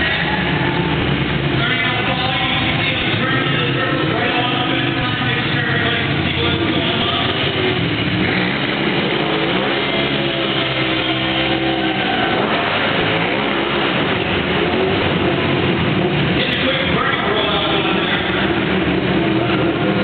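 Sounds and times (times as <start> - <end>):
motorcycle engine revving hard: 0.0 - 20.0.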